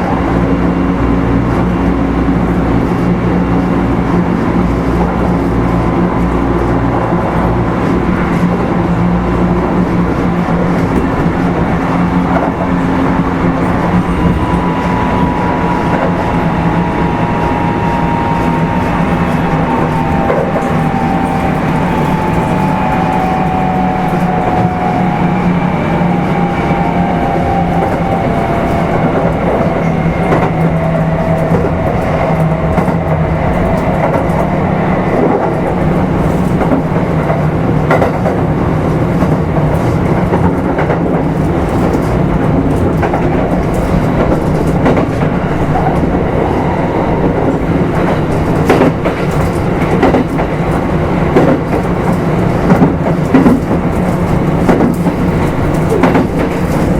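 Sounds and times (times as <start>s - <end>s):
train motor humming: 0.0s - 56.9s
rail-joint clicks: 9.6s - 25.1s, 26.2s - 56.9s.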